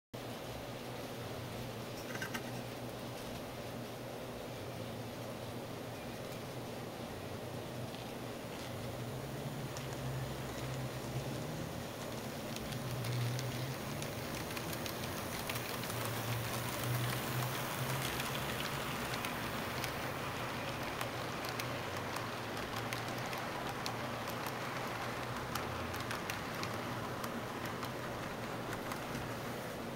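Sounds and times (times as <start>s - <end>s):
model train wheels on rails: 0.2s - 29.9s.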